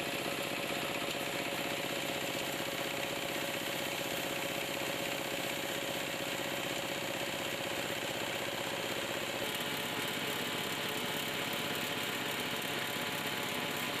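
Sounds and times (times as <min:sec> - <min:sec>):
tiller engine clattering: 0:00.0 - 0:14.0.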